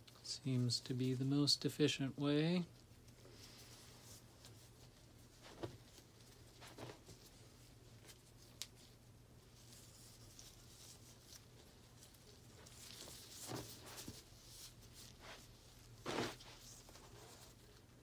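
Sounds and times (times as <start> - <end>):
low steady hum: 0.0 - 18.0
rustling of damp cloth: 2.5 - 18.0.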